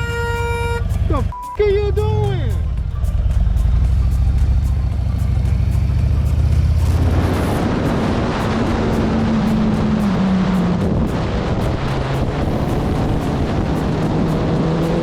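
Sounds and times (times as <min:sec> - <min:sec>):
motorcycle engine rumbling: 0:00.0 - 0:15.0
road noise: 0:00.0 - 0:15.0
rushing wind: 0:02.6 - 0:15.0.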